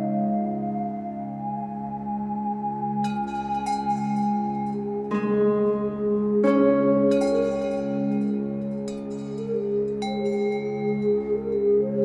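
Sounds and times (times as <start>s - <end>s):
held low tone: 0.0s - 12.0s
ringing bell-like notes: 0.0s - 12.0s.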